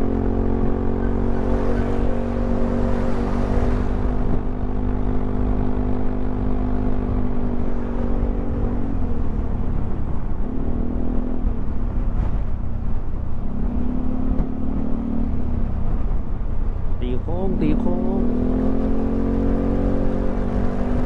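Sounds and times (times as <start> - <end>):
wind rumble on microphone: 0.0 - 17.2, 18.2 - 21.0.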